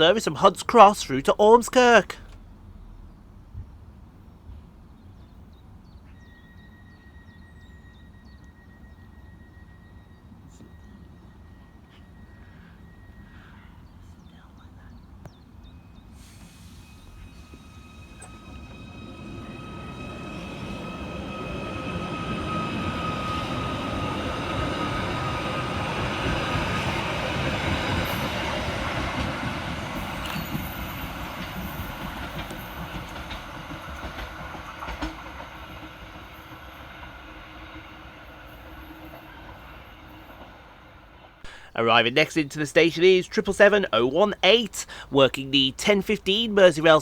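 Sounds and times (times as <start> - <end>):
train running noise: 0.0 - 14.5, 15.8 - 47.0.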